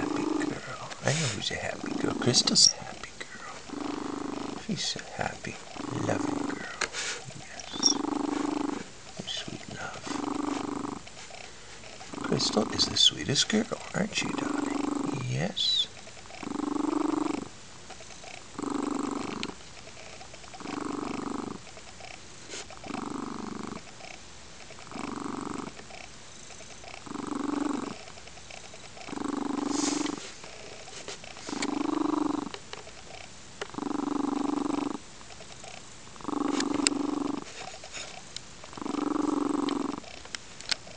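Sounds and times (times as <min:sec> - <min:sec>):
cat purring loudly: 0:00.0 - 0:35.0, 0:35.6 - 0:40.2.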